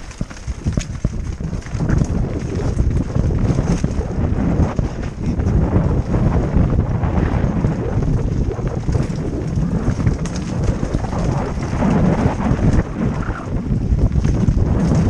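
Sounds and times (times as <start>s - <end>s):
bike frame and chain rattling: 0.0s - 15.0s
bike tyres crunching on dirt: 0.0s - 15.0s
wind buffeting microphone: 0.0s - 15.0s.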